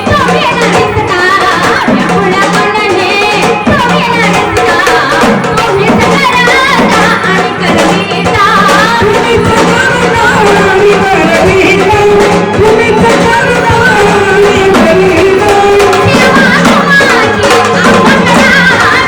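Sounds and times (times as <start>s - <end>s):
drum: 0.0s - 19.0s
woman singing devotional song: 0.0s - 19.0s.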